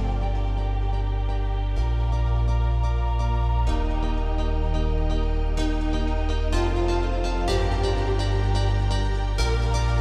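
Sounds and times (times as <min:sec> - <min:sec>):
calm new-age music: 0:00.0 - 0:10.0.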